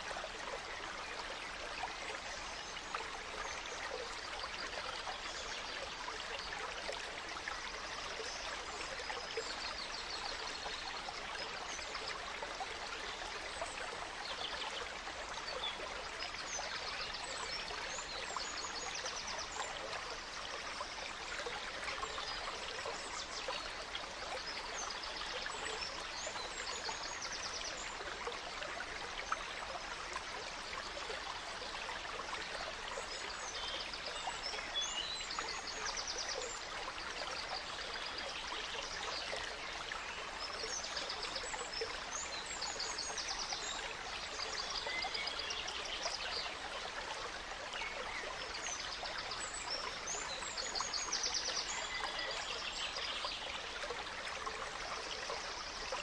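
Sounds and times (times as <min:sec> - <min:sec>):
stream trickling and rippling: 0:00.0 - 0:56.0.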